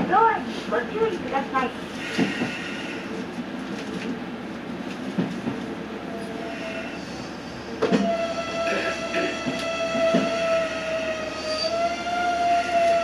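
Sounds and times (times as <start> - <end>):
railcar rumble: 0.0 - 13.0.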